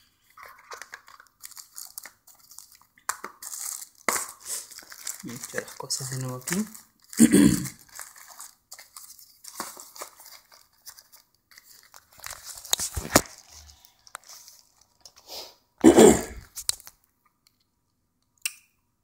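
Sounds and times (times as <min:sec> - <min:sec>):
plastic and cardboard rustling: 0:00.0 - 0:15.3.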